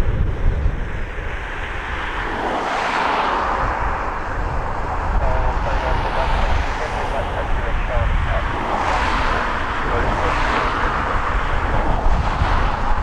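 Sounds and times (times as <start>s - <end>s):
jet airliner landing: 0.0s - 13.0s.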